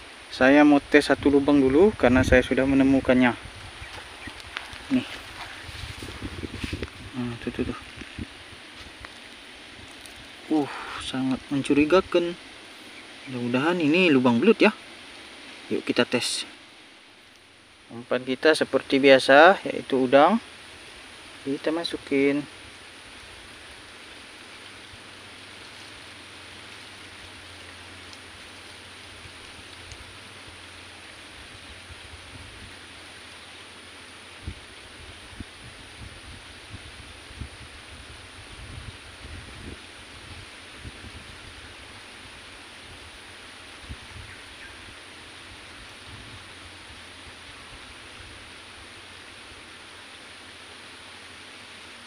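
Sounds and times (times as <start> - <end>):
faint outdoor hiss: 0.0 - 52.0.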